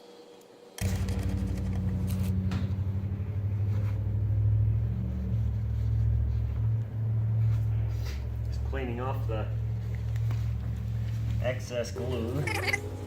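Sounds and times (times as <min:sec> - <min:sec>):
machine humming loudly: 0:00.7 - 0:13.0.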